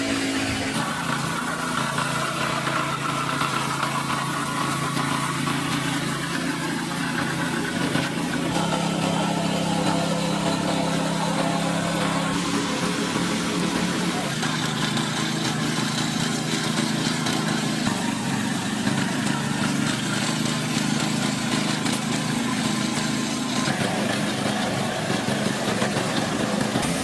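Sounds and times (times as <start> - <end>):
heavy machine engine running: 0.0 - 27.0
machinery hiss: 0.0 - 27.0.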